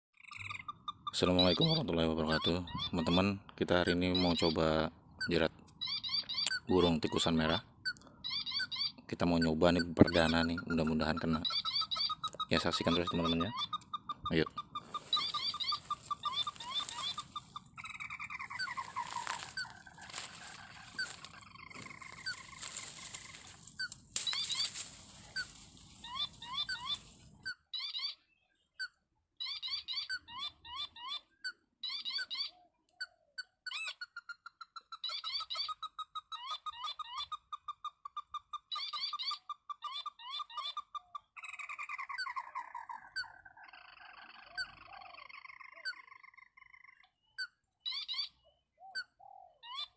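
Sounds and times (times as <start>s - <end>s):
crake calling: 0.2s - 32.6s, 35.0s - 49.9s.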